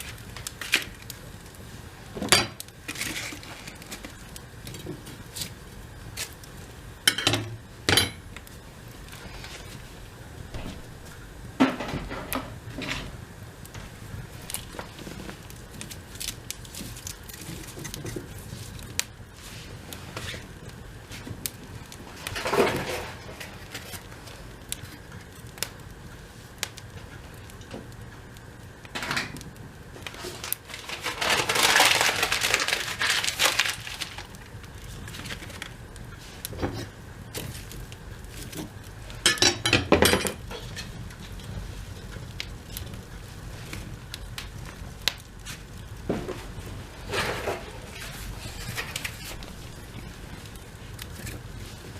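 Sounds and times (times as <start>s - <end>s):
small wood fire crackling: 0.0s - 51.9s.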